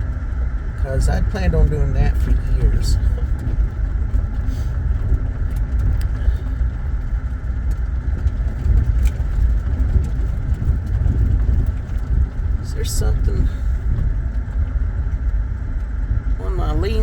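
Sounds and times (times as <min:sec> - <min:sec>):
car engine noise: 0:00.0 - 0:17.0
road rumble: 0:00.0 - 0:17.0.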